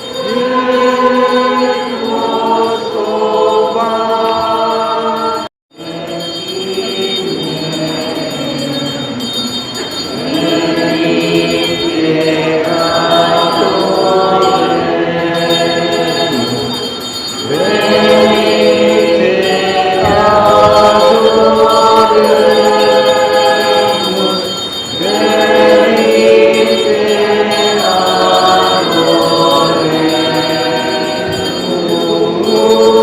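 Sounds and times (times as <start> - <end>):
choir singing a hymn: 0.0 - 33.0.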